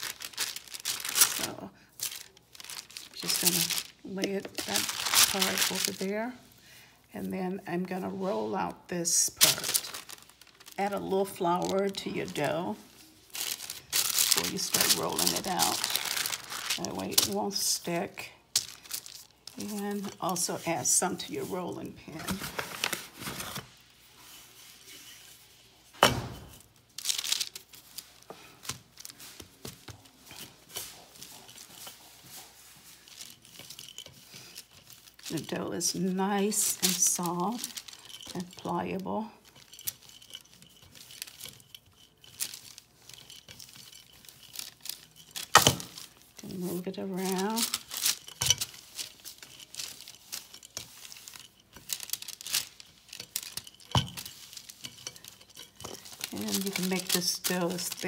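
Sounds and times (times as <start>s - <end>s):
paper rustling and crinkling: 0.0s - 6.3s, 9.3s - 25.4s, 26.4s - 58.0s.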